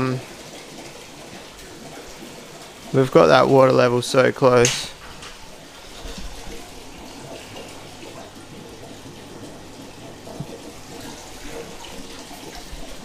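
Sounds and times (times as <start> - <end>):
bubbling water: 0.0 - 13.0
water splashing from pipe: 0.0 - 13.0.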